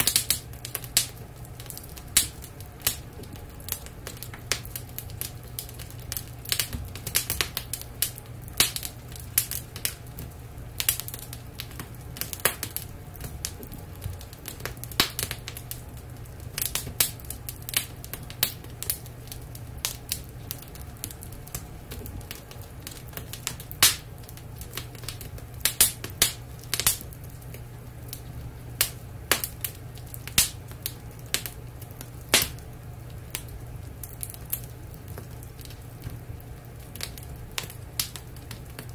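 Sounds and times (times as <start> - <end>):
steady low hum: 0.0 - 38.9
wood fire crackling and popping: 0.0 - 38.9.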